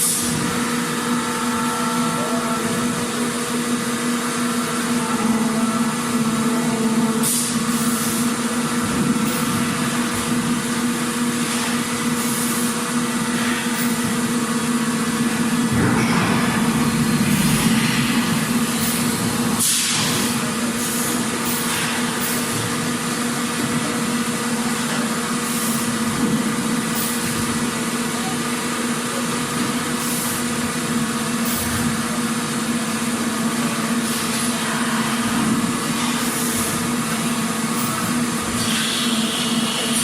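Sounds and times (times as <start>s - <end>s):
machinery humming: 0.0s - 40.0s.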